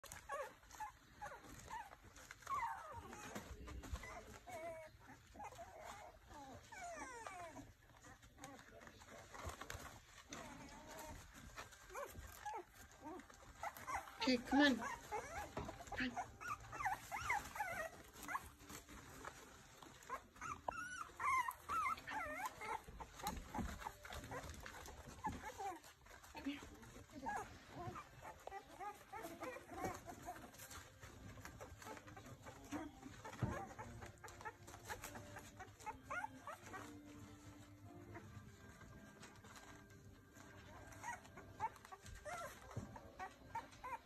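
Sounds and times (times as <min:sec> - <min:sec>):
puppies whining and squeaking: 0:00.0 - 0:44.0.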